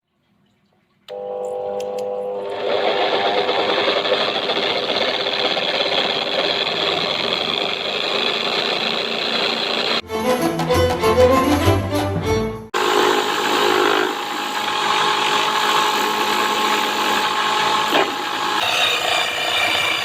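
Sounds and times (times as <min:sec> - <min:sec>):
electric drill whirring: 0:01.1 - 0:10.0, 0:12.8 - 0:20.0.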